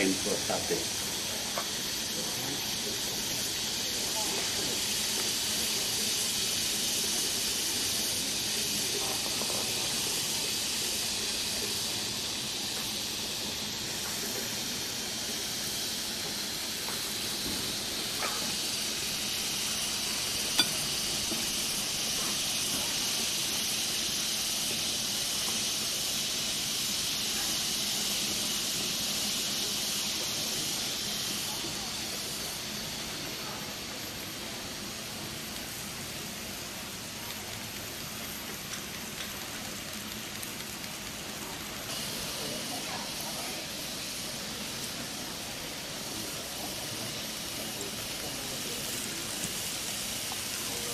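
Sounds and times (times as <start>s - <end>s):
meat sizzling on a grill: 0.0s - 50.9s.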